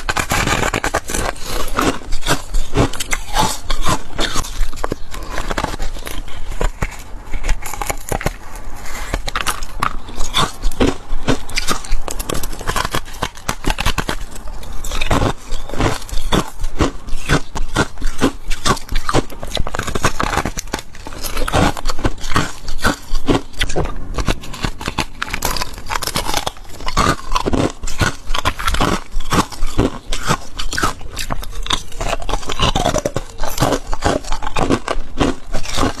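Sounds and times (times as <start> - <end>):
chewing crunchy frost: 0.0 - 36.0.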